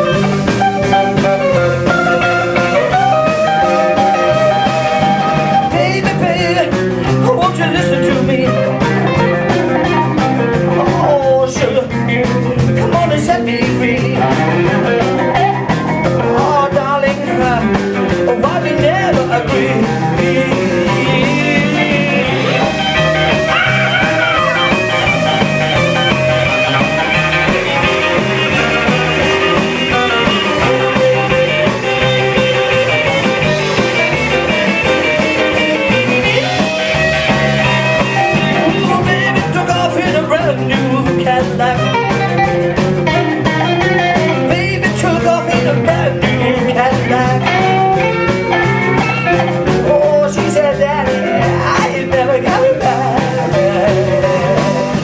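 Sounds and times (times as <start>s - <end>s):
loud rock band playing: 0.0s - 55.0s.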